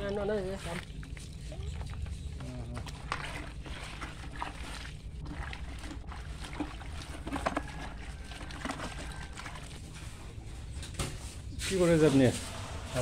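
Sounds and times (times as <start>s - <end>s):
hands scrubbing plastic bucket: 0.0s - 10.6s
water sloshing: 0.0s - 13.0s.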